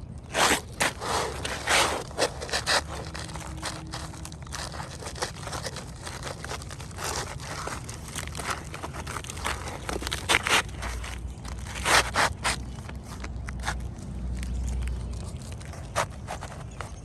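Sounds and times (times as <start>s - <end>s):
roofing shingles scraping: 0.2s - 13.9s.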